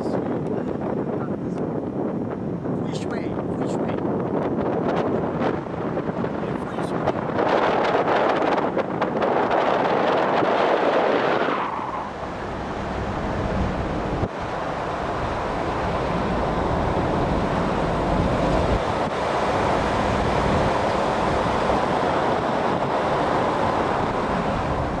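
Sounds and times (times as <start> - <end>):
road and engine rumble: 0.0 - 25.0
wind rushing over microphone: 0.0 - 25.0.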